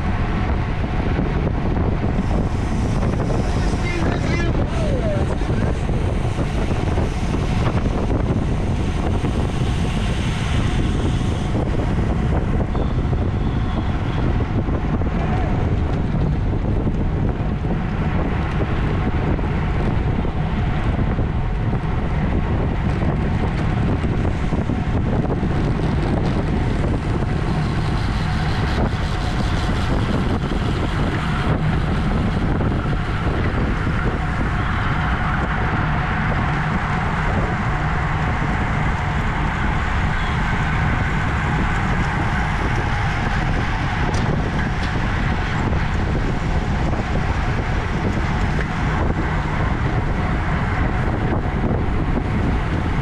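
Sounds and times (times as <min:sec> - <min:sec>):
continuous low rumble: 0:00.0 - 0:53.0
wind rushing over microphone: 0:00.0 - 0:53.0.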